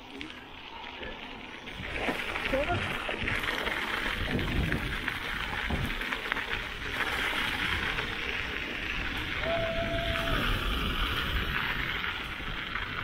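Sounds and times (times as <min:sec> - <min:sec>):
bicycle tyres on gravel: 0:00.0 - 0:13.0.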